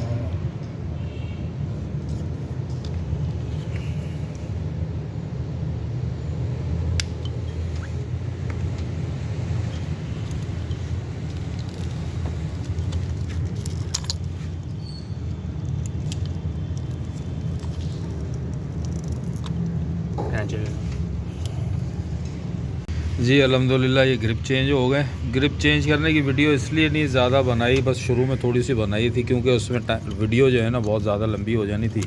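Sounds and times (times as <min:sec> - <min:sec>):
low mechanical rumble: 0:01.7 - 0:32.0.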